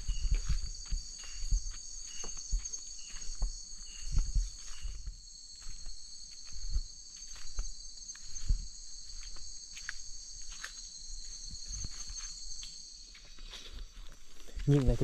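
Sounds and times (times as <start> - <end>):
footsteps through undergrowth: 0.0 - 15.0
night insects chirring: 0.0 - 15.0.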